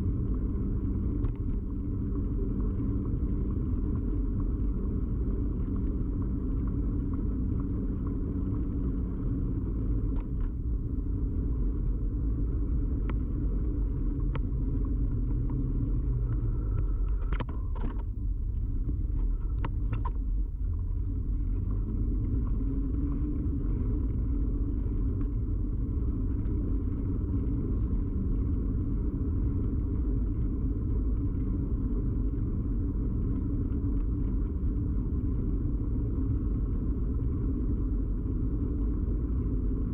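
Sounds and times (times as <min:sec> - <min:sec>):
bicycle tyre and frame rumble: 0:00.0 - 0:39.9.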